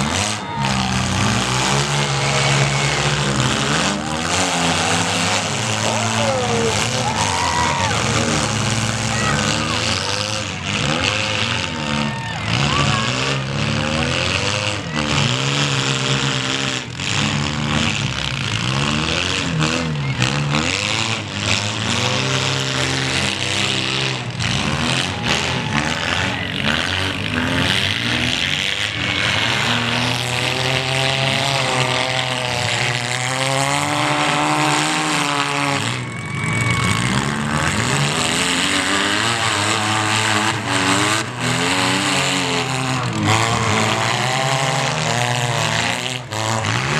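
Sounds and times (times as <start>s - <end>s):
small car engines revving: 0.0s - 46.9s.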